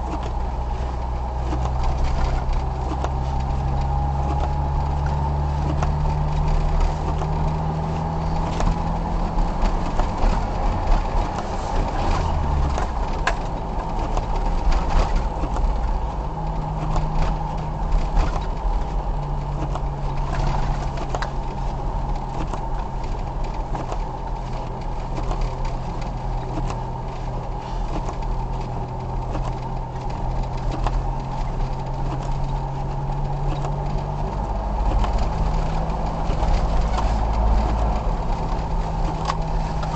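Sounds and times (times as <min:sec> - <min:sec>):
car engine hum: 0:00.0 - 0:39.9
low road rumble: 0:00.0 - 0:39.9
small clicks and knocks: 0:00.0 - 0:39.9.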